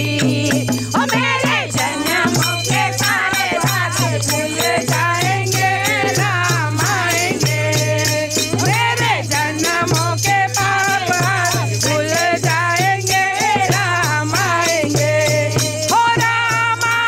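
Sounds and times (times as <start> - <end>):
group singing devotional song: 0.0 - 17.0
hand cymbals clashing: 0.0 - 17.0
hand drum beat: 0.0 - 17.0
jingle rattles: 0.0 - 17.0.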